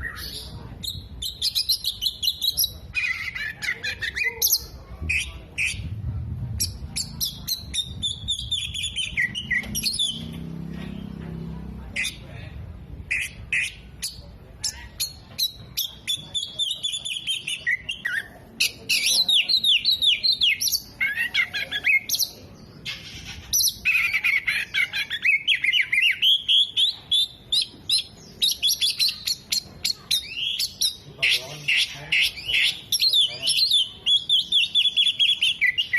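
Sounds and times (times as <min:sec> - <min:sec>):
bird singing chirps and trills: 0:00.0 - 0:06.0, 0:06.6 - 0:11.2, 0:13.1 - 0:35.9.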